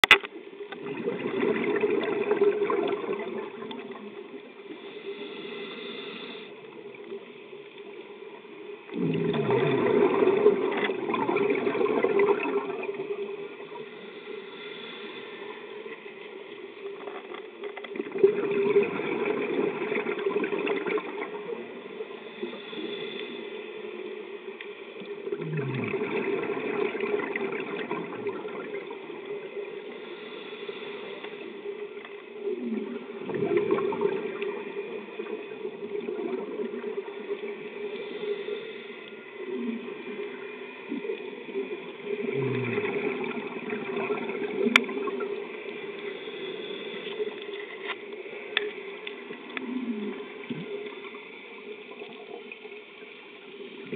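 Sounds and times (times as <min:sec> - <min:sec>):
exhaled bubbles underwater: 0:00.6 - 0:06.0, 0:08.8 - 0:14.2, 0:16.9 - 0:23.4, 0:24.5 - 0:38.7, 0:39.4 - 0:53.9
soft regulator hiss: 0:02.5 - 0:09.0, 0:12.8 - 0:18.2, 0:20.5 - 0:25.4, 0:26.8 - 0:53.9.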